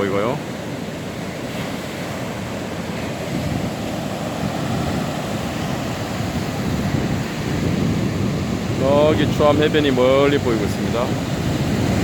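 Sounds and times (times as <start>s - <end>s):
surf crashing against rocks: 0.0s - 12.0s
wind buffeting microphone: 0.0s - 12.0s.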